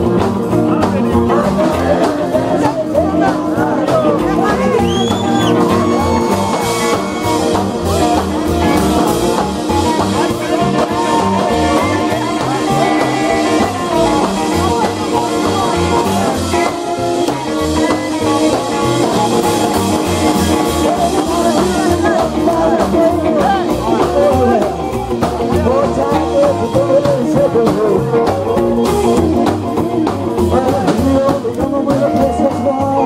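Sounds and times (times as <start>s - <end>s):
double bass: 0.0s - 33.0s
drums: 0.0s - 33.0s
electric guitar: 0.0s - 33.0s
man singing: 0.0s - 33.0s.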